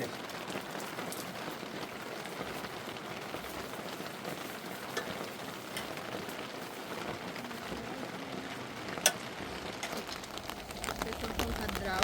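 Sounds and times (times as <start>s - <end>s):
rain hissing on surfaces: 0.0s - 12.0s.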